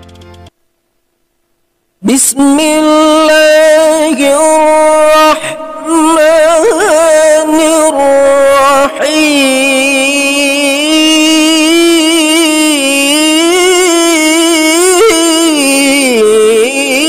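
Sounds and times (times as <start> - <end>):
person chanting recitation with reverb: 2.0 - 17.0.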